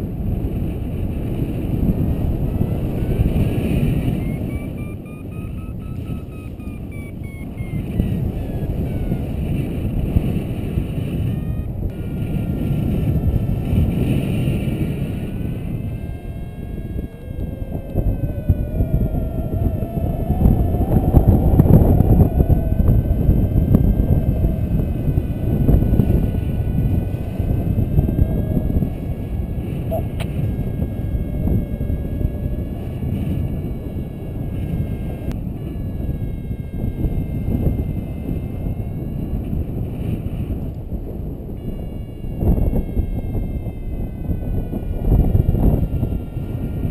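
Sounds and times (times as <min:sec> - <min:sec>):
wind buffeting microphone: 0:00.0 - 0:46.9
faint wavering whistling tones: 0:01.3 - 0:46.9.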